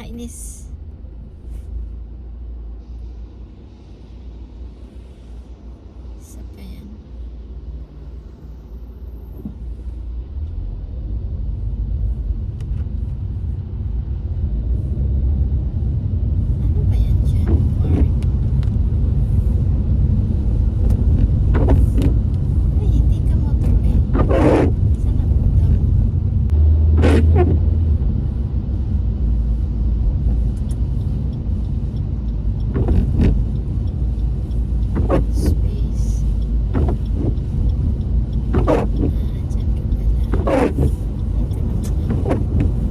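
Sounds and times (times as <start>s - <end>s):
car rumble inside cabin: 0.0s - 42.9s.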